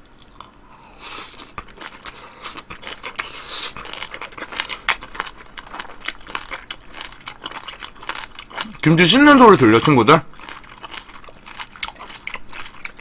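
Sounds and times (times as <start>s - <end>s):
close chewing crunches: 0.0s - 13.0s.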